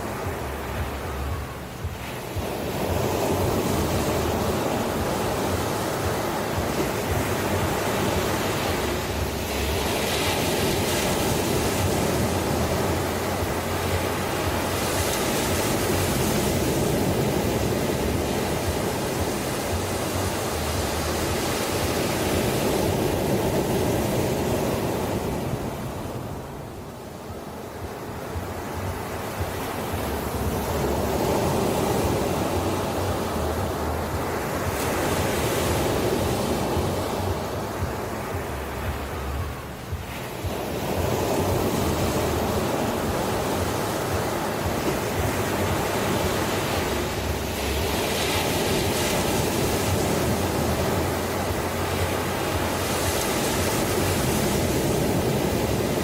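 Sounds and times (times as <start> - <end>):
ocean surf washing onto shore: 0.0 - 56.0.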